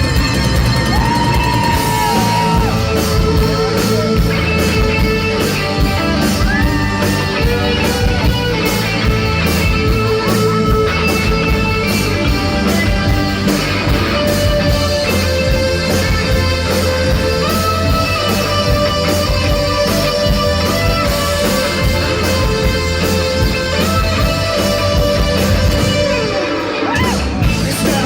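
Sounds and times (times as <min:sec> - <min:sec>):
electric guitar: 0:00.0 - 0:28.0
live rock band playing: 0:00.0 - 0:28.0
steady drum beat: 0:00.0 - 0:28.0.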